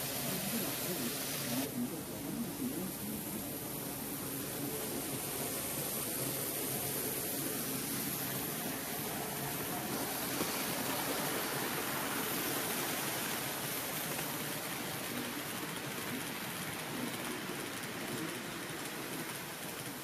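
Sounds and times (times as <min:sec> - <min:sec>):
model train wheels rolling: 0:00.0 - 0:20.0.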